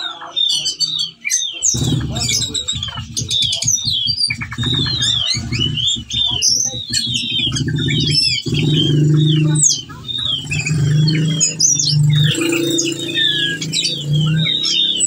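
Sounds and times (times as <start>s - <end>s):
thrush singing chirps and whistles: 0.0s - 15.0s
steady low hum: 1.8s - 15.0s.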